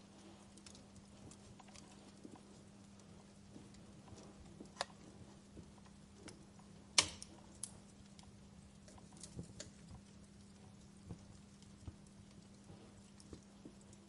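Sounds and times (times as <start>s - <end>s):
faint steady hum: 0.0s - 14.0s
wood fire crackling: 0.0s - 14.0s.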